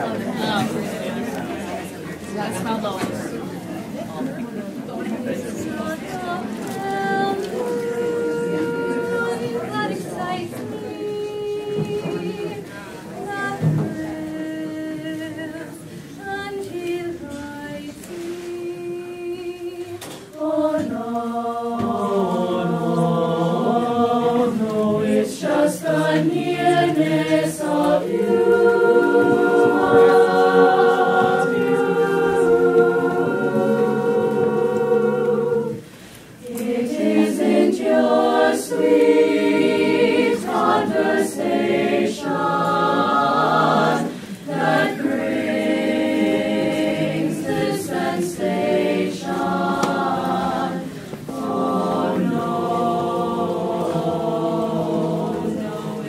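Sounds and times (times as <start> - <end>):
choir singing a cappella: 5.1 - 56.0.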